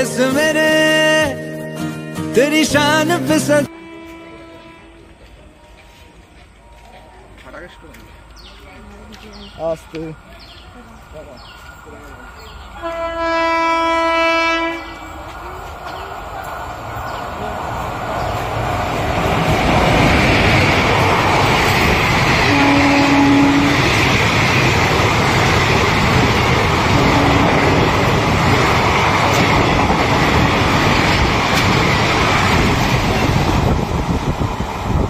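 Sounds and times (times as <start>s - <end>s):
train wheels rushing on rail: 4.6s - 35.0s.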